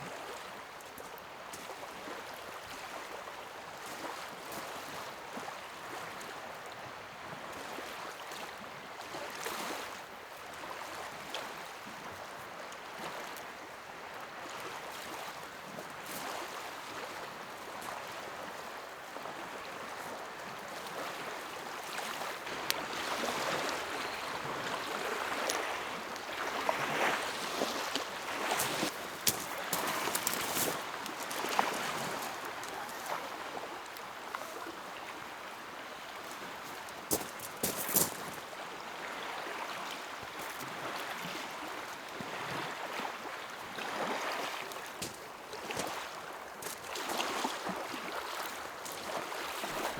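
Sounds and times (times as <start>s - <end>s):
waves lapping against shore: 0.0s - 49.9s.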